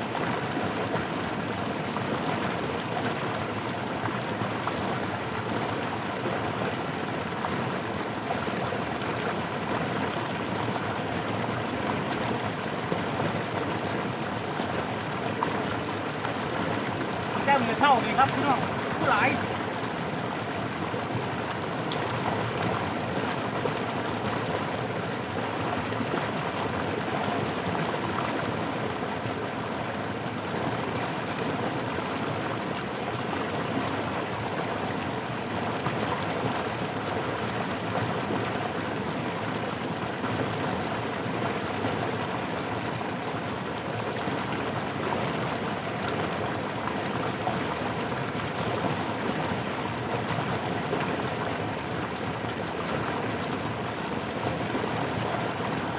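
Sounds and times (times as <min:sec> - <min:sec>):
water rushing through channel: 0:00.0 - 0:55.9.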